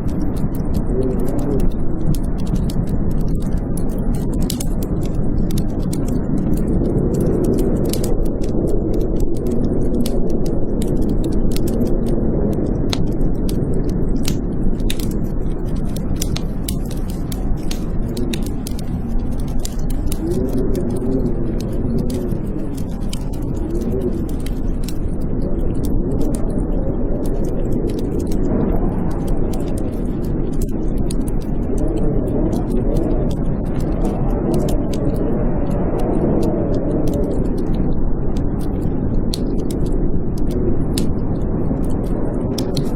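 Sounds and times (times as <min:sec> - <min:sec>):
blizzard wind howling: 0:00.0 - 0:42.9
wood fire crackling and popping: 0:00.0 - 0:42.9.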